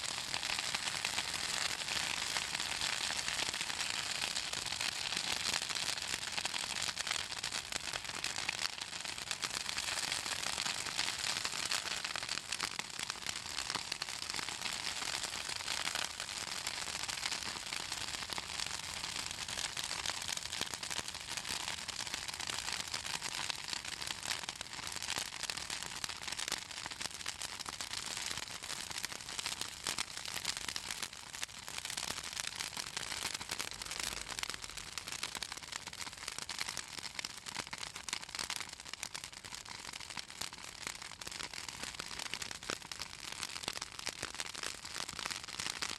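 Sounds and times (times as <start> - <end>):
wood fire crackling and popping: 0.1 - 45.9.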